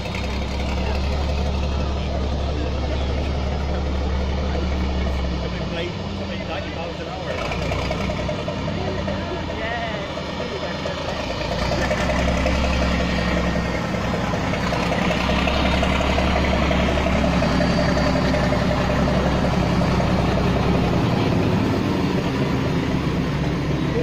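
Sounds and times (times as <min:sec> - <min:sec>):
diesel locomotive engine droning: 0:00.0 - 0:24.0.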